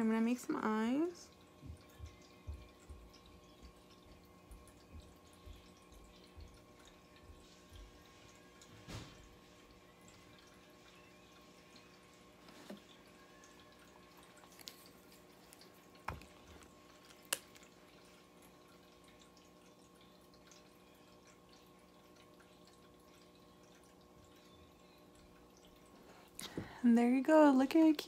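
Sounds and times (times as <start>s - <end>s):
faint room hum: 0.0s - 28.0s.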